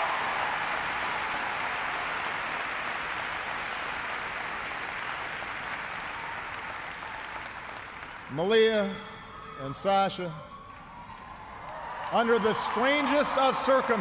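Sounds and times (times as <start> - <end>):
audience applauding: 0.0 - 8.9, 10.7 - 14.0.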